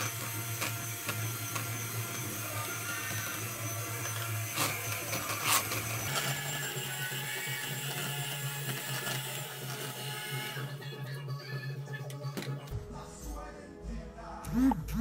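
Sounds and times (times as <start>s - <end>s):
electric hand mixer whisking batter: 0.0s - 12.5s.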